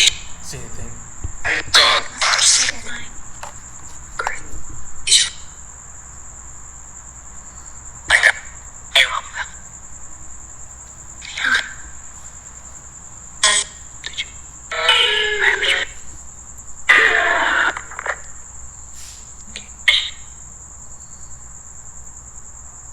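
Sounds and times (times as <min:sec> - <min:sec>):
choppy bursts of scanned noise: 0:00.0 - 0:18.6
crickets chirring: 0:00.0 - 0:22.9.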